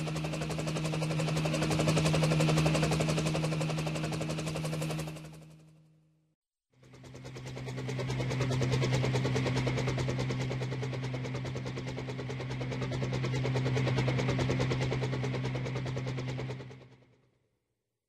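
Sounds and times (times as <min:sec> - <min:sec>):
toy helicopter motors and rotors: 0:00.0 - 0:05.6, 0:06.7 - 0:17.2.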